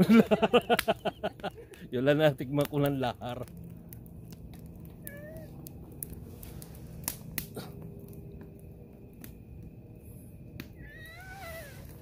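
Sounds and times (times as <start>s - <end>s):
campfire wood crackling: 0.0s - 12.0s
low steady rumble: 0.0s - 12.0s.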